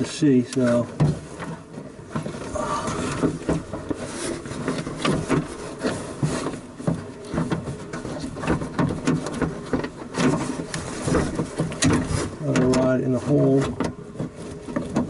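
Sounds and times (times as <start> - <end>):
scraping and rubbing in car door: 0.0 - 15.0
clicks and knocks of parts: 0.5 - 15.0.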